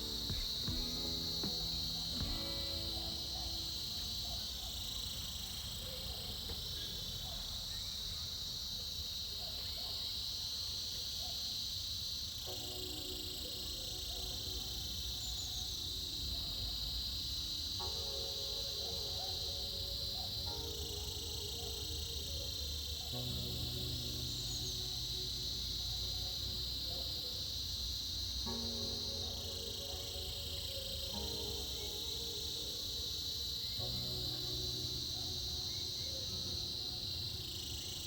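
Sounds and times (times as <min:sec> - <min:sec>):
cicadas buzzing: 0:00.0 - 0:38.0.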